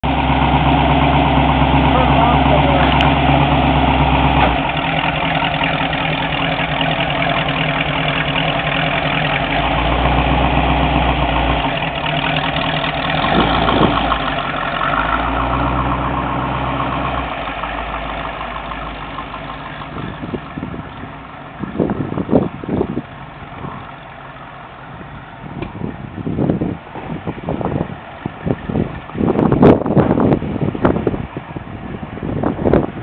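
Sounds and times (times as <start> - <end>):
car engine idling and pulling away: 0.0 - 33.0.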